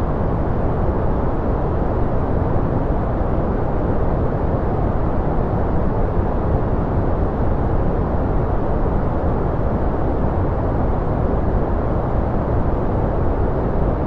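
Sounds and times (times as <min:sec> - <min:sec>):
deep white noise rush: 0:00.0 - 0:14.0.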